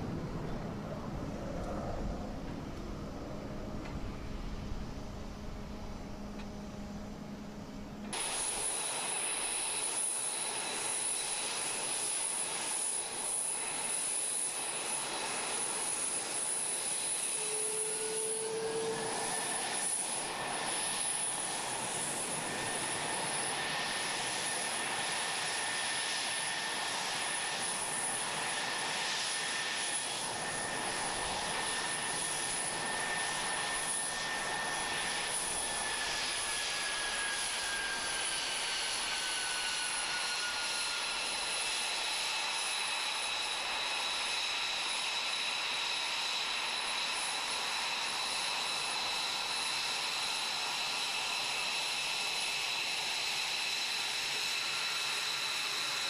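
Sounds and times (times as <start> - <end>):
jet engines hissing and whining: 0.0 - 56.0.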